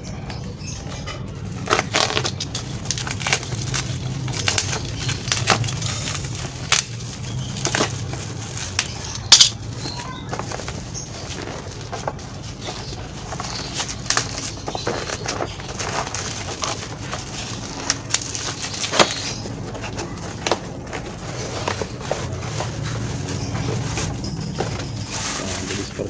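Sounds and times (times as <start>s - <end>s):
plastic packaging crackling: 1.4s - 26.0s.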